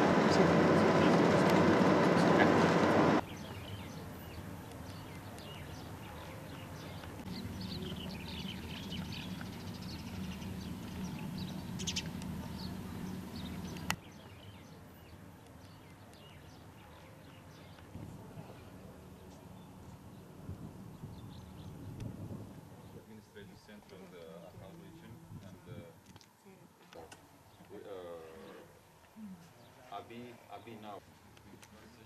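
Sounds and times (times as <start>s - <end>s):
low steady hum: 0.0s - 26.6s
faint outdoor ambience: 0.0s - 32.0s
small birds chirping: 0.1s - 25.9s.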